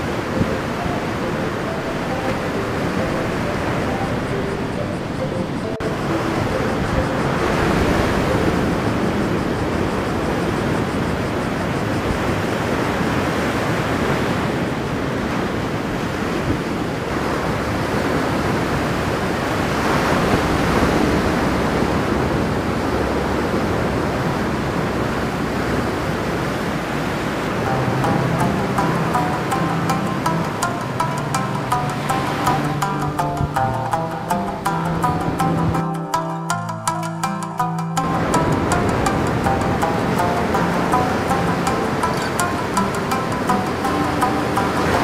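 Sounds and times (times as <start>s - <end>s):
ocean surf breaking on shore: 0.0s - 45.0s.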